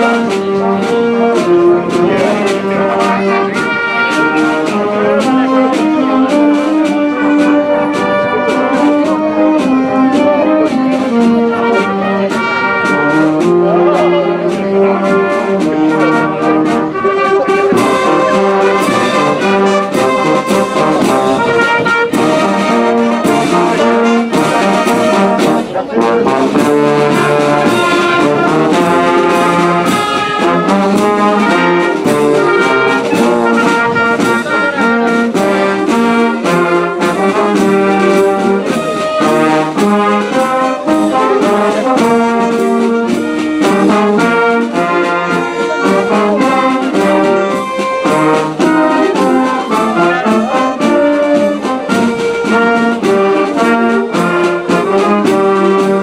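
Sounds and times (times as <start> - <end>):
percussion beat: 0.0 - 56.0
wind band playing a tune: 0.0 - 56.0.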